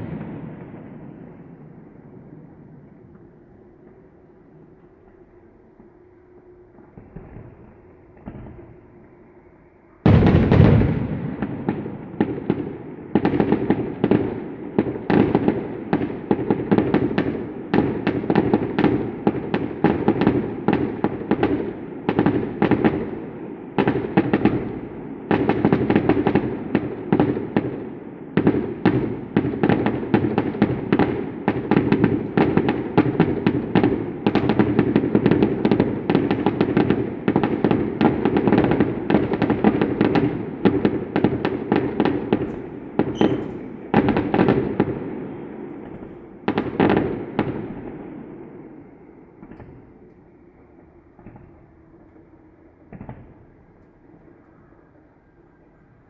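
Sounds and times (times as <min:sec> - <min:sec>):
fireworks bursting and crackling: 0:00.0 - 0:09.2, 0:09.8 - 0:54.5.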